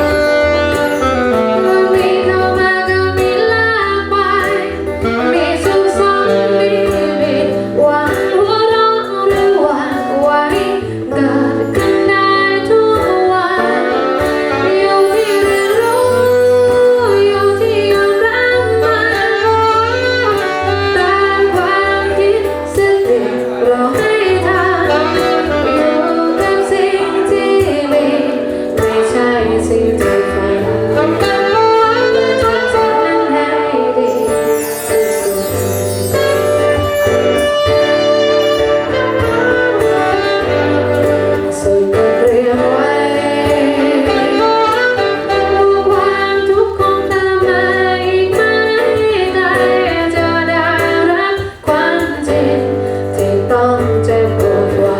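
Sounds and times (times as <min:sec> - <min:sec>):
guitar accompaniment: 0:00.0 - 0:54.9
woman singing: 0:00.0 - 0:54.9.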